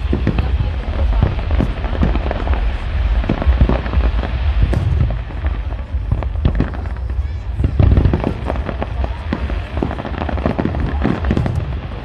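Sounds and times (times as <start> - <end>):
fireworks bangs and crackles: 0.0 - 12.0
low rumble of booms: 0.0 - 12.0.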